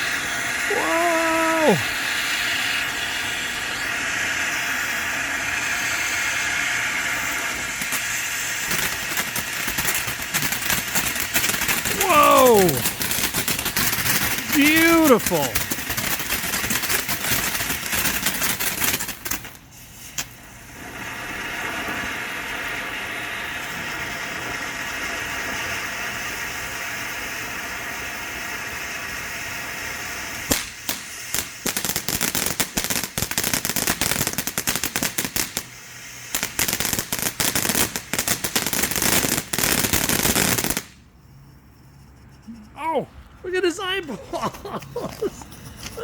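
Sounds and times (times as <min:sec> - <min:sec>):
firework fountain crackling and hissing: 0:00.0 - 0:46.0.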